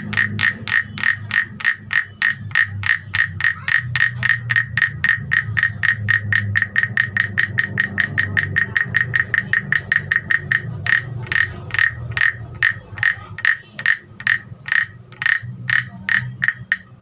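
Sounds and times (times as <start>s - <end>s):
wooden guiro tapped with stick: 0.0s - 17.0s.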